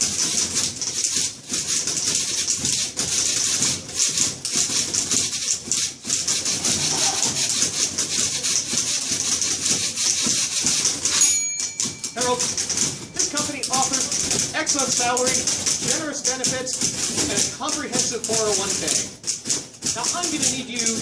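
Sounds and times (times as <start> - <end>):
typewriter keystrokes clattering: 0.0 - 21.0.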